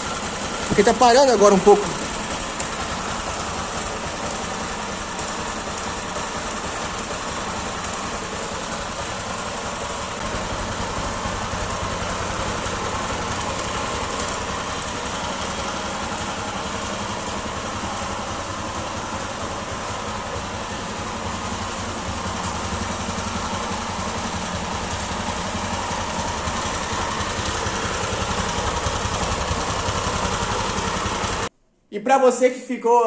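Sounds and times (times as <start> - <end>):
motorcycle engine idling: 0.0 - 31.5.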